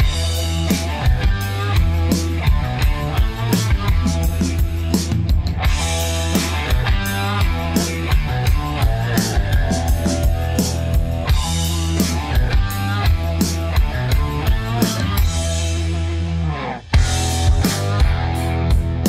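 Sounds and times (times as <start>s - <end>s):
drum kit beat: 0.0s - 16.3s, 16.9s - 19.0s
bass guitar: 0.0s - 19.0s
electric guitar: 0.0s - 19.0s.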